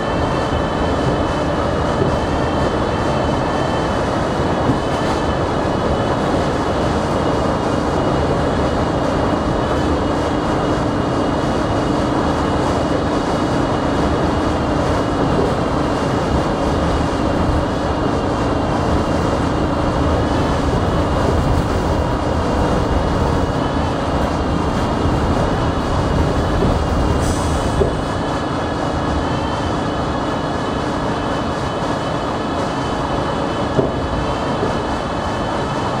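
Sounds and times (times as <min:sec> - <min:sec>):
subway car rumble: 0:00.0 - 0:36.0.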